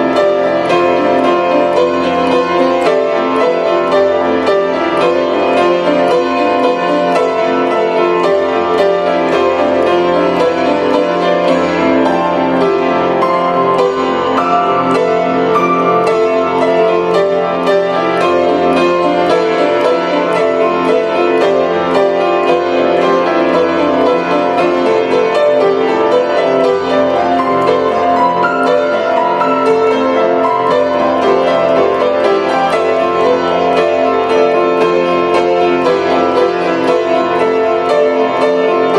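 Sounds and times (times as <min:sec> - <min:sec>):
grand piano playing: 0:00.0 - 0:38.9.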